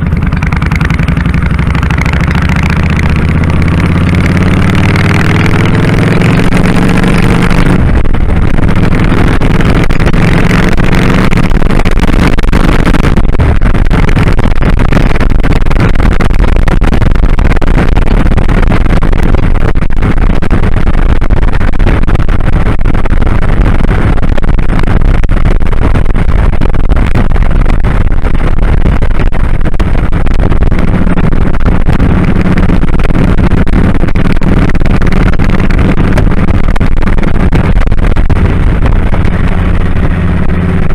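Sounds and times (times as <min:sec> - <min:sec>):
motorcycle engine running: 0:00.0 - 0:40.9
wind rushing over microphone: 0:00.0 - 0:40.9.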